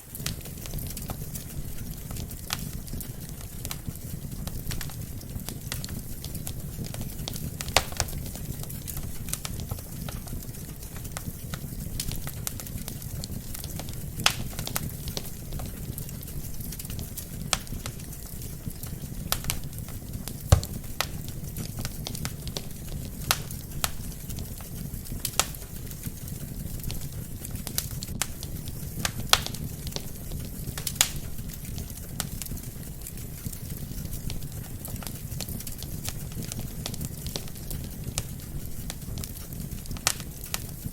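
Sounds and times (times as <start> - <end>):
burning logs crackling and popping: 0.0 - 40.9
low rumble of flames: 0.0 - 40.9.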